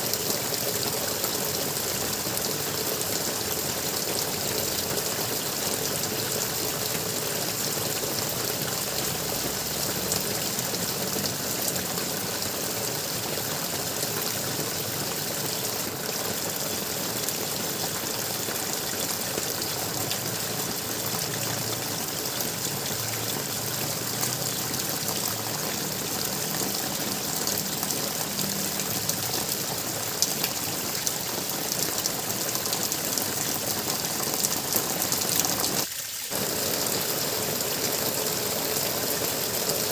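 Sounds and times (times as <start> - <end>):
water gurgling: 0.0 - 39.9.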